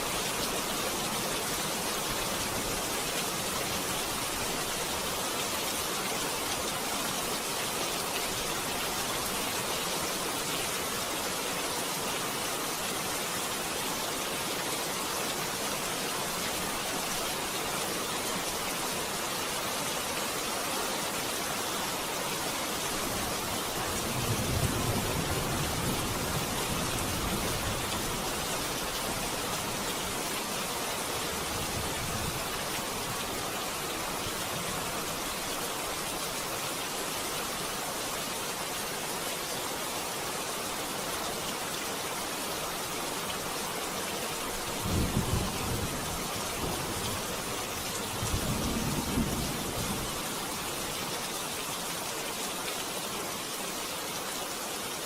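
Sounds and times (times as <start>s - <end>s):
steady water hiss: 0.0s - 55.0s.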